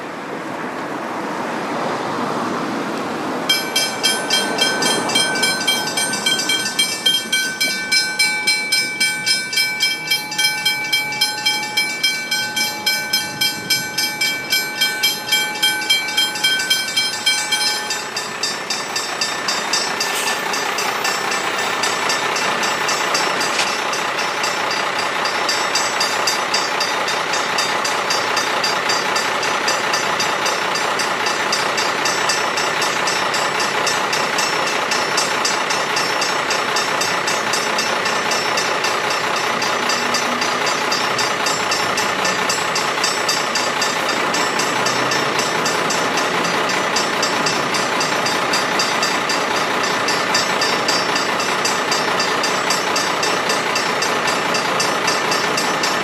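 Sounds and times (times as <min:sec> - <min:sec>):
approaching train rushing: 0:00.0 - 0:56.0
level crossing bells ringing: 0:03.5 - 0:56.0.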